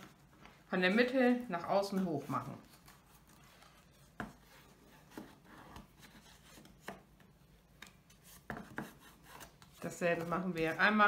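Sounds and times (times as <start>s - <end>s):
soft taps and rubs of handling: 1.8s - 10.9s.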